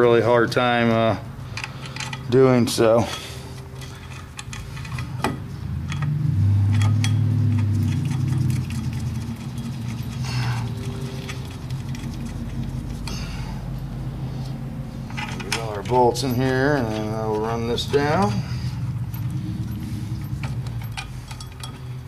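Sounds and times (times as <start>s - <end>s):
steady low hum: 0.0s - 22.0s
metal bolts clicking and clinking: 0.8s - 12.7s, 15.0s - 22.0s.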